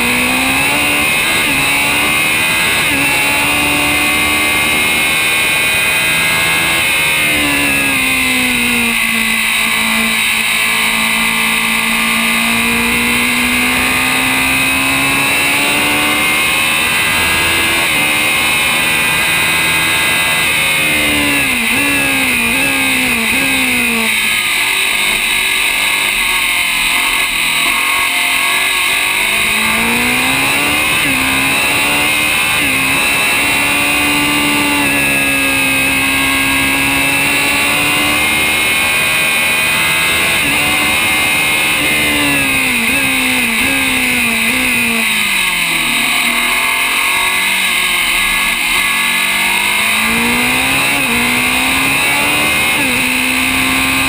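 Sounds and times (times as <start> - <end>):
racing car engine shifting gears: 0.0 - 54.0.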